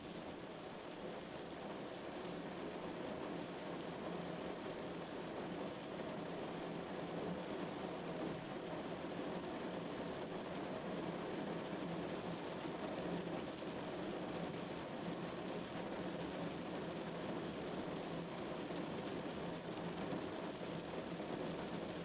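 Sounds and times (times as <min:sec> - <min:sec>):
rain on a car: 0:00.0 - 0:22.0.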